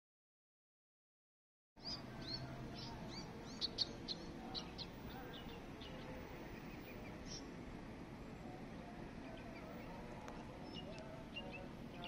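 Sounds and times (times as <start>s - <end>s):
low background hum: 1.8s - 12.0s
sparrows chirping: 1.8s - 12.0s.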